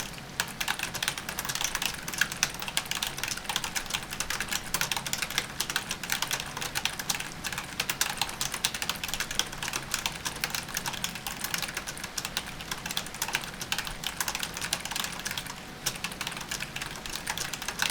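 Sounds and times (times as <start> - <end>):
fast typing on keyboard: 0.0 - 17.9.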